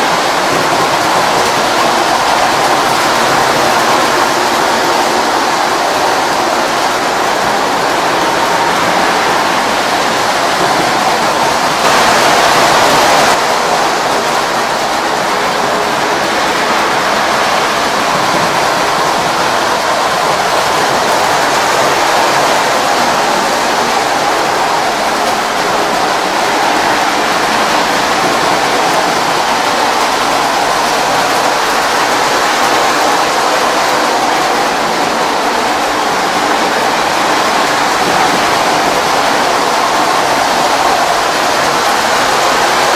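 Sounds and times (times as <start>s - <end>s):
toy train rumbling on rails: 0.0s - 42.9s.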